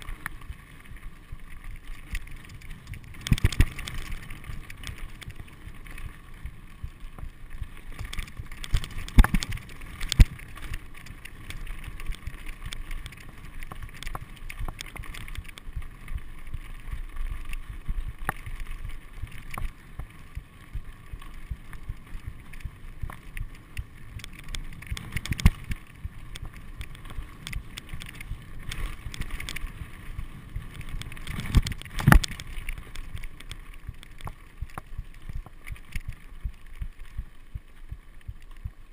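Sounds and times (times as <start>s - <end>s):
bike tyres rattling over rocks: 0.0s - 38.9s
sharp knocks from bike hitting bumps: 0.0s - 38.9s.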